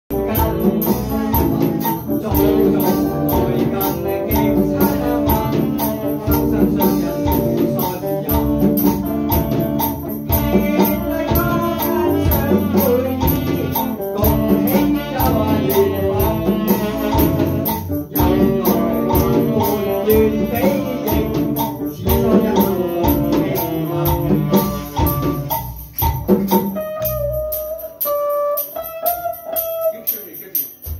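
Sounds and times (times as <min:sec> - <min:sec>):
music with a steady beat: 0:00.1 - 0:30.9.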